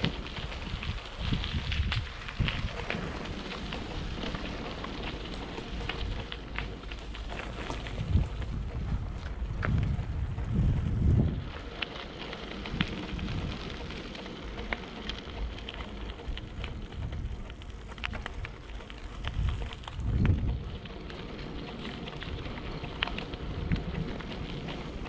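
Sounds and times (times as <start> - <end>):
crackle of small clicks: 0.0 - 25.0
wind buffeting microphone: 0.0 - 25.0.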